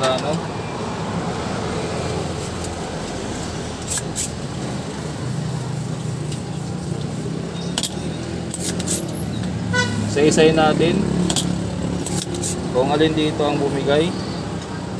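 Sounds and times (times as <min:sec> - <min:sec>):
road traffic rumble and hiss: 0:00.0 - 0:14.9.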